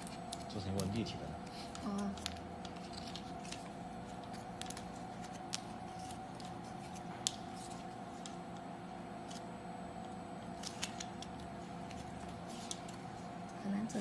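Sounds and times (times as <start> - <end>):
machine hum with steady tones: 0.0 - 14.0.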